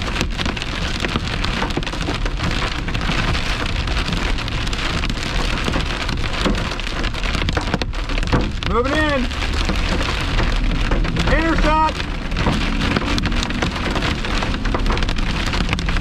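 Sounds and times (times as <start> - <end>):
heavy rain on vehicle roof: 0.0 - 16.0
road and engine rumble: 0.0 - 16.0.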